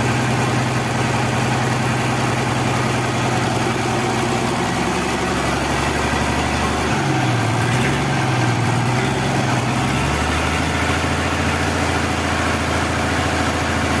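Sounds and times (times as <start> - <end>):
forklift engine idling: 0.0 - 14.0.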